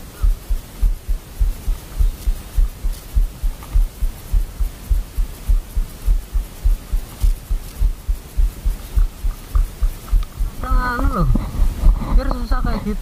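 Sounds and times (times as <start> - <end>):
rhythmic low thumping: 0.0 - 12.3.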